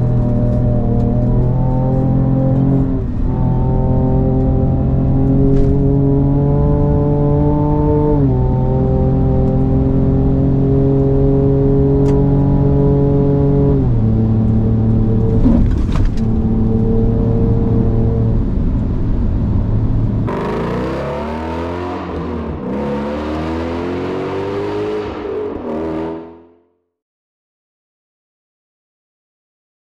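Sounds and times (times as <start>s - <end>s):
car engine accelerating: 0.0s - 26.6s.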